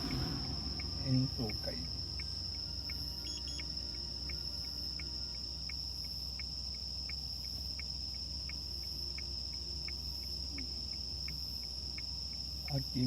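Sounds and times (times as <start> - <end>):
cricket chirping: 0.0 - 13.0
cricket trilling: 0.0 - 13.0
low steady hum: 0.0 - 13.0.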